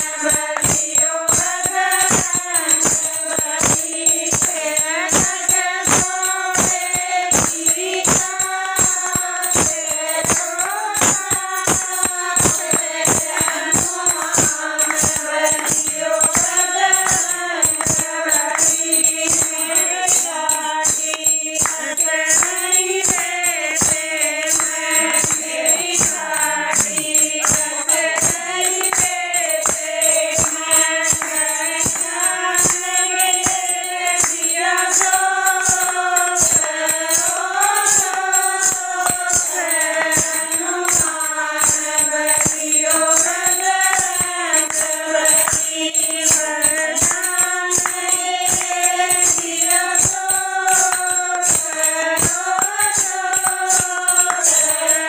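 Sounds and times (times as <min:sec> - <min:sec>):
hand claps: 0:00.0 - 0:55.0
small brass hand cymbals: 0:00.0 - 0:55.0
women singing in unison: 0:00.0 - 0:55.0.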